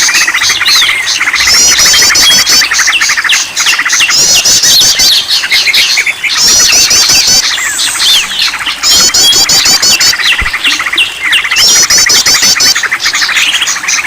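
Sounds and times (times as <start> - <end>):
songbirds calling: 0.0 - 14.0.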